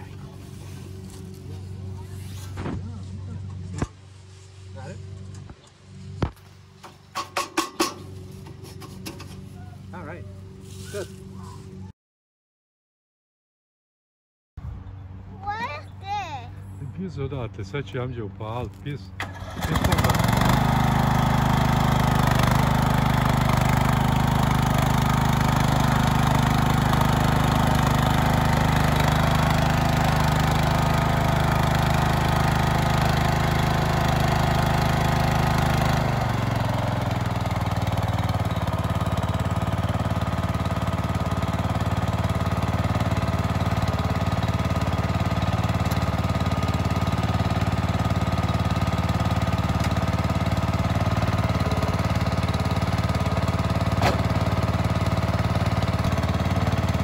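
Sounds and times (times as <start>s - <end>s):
mower engine running: 0.0s - 11.8s, 15.5s - 57.0s.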